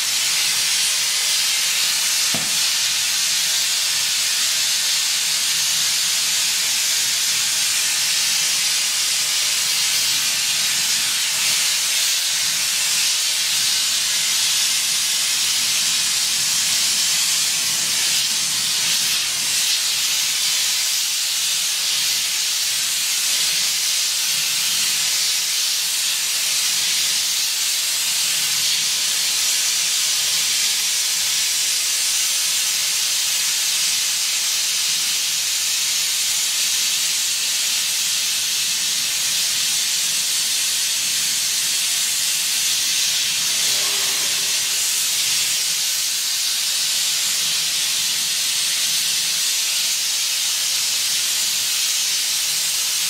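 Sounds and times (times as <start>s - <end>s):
gas torch flame hissing: 0.0s - 53.0s.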